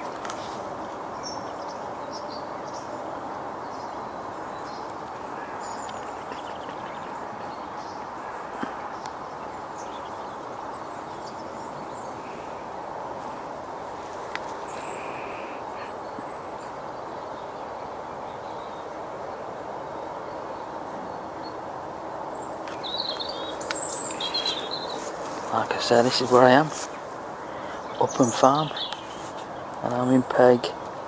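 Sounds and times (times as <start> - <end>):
small birds chirping: 0.0 - 31.0
steady background hiss: 0.0 - 31.0.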